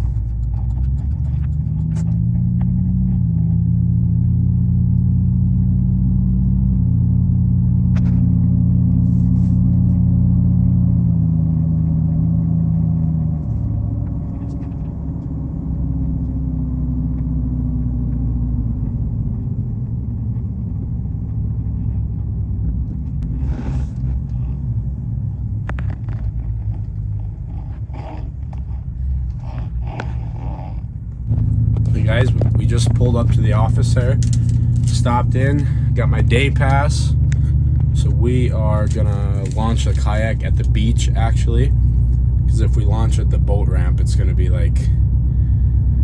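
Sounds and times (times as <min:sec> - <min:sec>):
low road rumble: 0:00.0 - 0:46.0
truck engine hum: 0:00.0 - 0:46.0.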